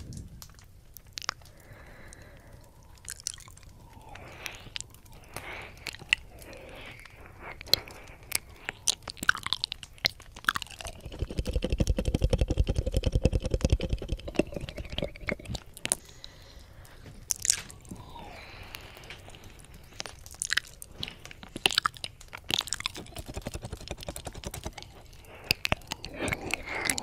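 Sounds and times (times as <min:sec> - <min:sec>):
ear licking: 0:00.0 - 0:27.0
rapid tongue flutter: 0:00.0 - 0:27.0
sharp mouth clicks: 0:00.0 - 0:27.0
wet mouth sounds: 0:00.0 - 0:27.0.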